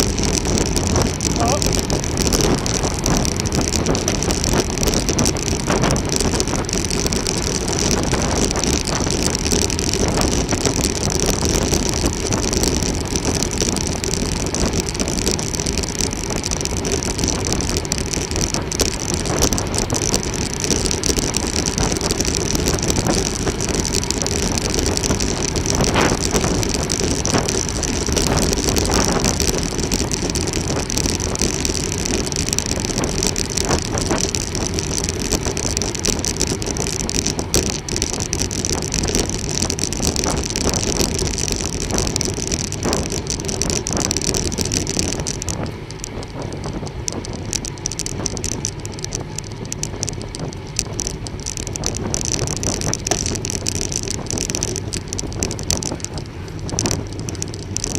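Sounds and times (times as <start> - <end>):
wind buffeting microphone: 0.0 - 57.9
wind rush and road noise: 0.0 - 57.9.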